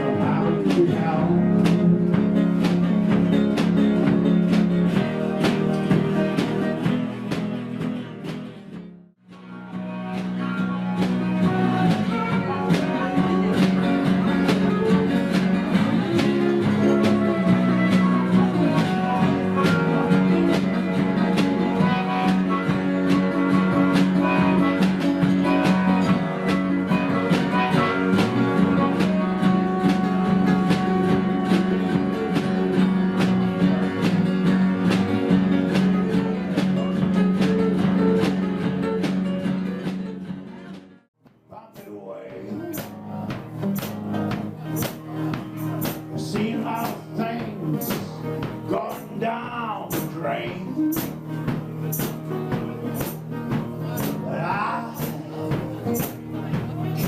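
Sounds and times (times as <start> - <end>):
guitar-led instrumental song: 0.0 - 57.0.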